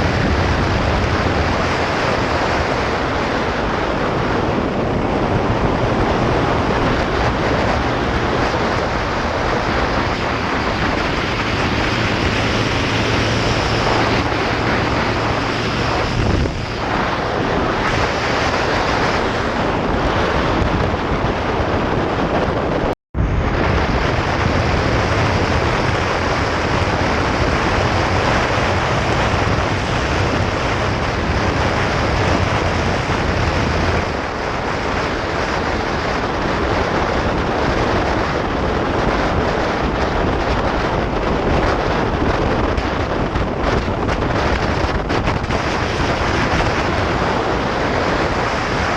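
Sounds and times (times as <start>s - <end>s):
motorcycle engine hum: 0.0s - 48.9s
wind buffeting microphone: 0.0s - 48.9s.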